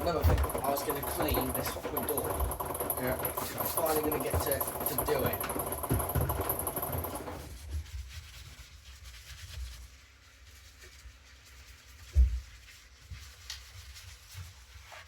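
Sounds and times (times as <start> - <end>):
faint rubbing and handling noises: 0.0 - 15.0.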